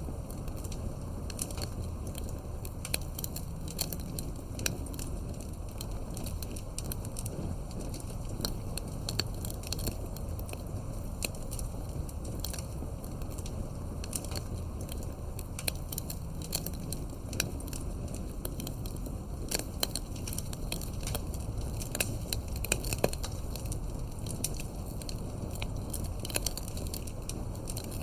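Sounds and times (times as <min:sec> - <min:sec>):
wood crackling and popping: 0:00.0 - 0:28.0
wood fire rumbling: 0:00.0 - 0:28.0.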